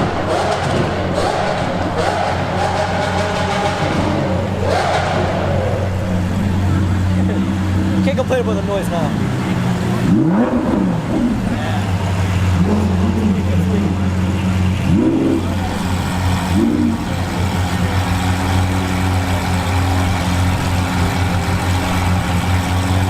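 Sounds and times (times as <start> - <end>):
sports car engine idling: 0.0 - 23.0.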